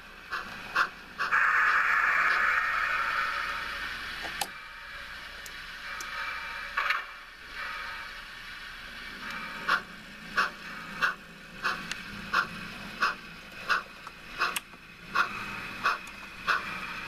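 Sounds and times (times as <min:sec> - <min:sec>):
model locomotive chuffing: 0:00.0 - 0:17.0
steam hiss: 0:00.2 - 0:17.0.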